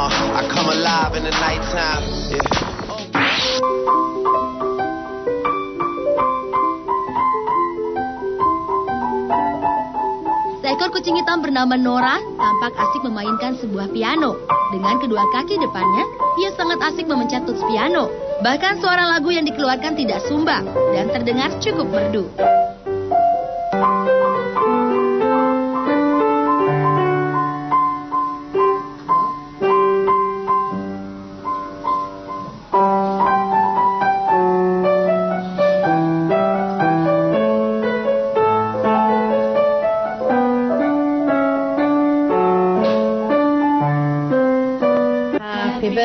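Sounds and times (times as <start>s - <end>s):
piano playing: 0.0s - 2.5s, 3.2s - 46.0s.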